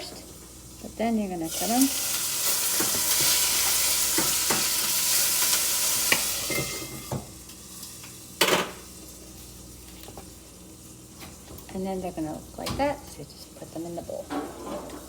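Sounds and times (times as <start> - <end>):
peppers sizzling in a frying pan: 0.0 - 14.2.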